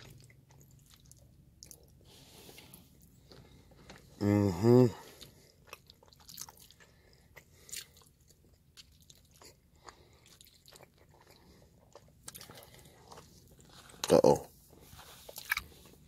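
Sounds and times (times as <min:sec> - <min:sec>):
person chewing and smacking: 0:00.0 - 0:04.1, 0:05.0 - 0:16.0.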